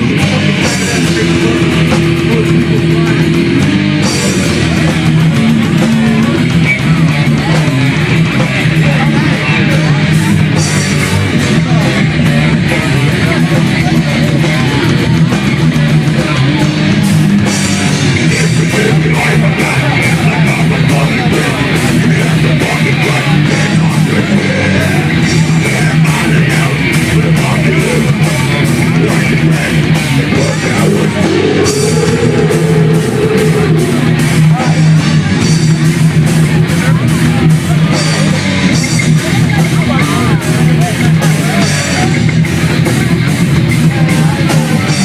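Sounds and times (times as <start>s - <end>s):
punk rock band playing: 0.0s - 45.0s.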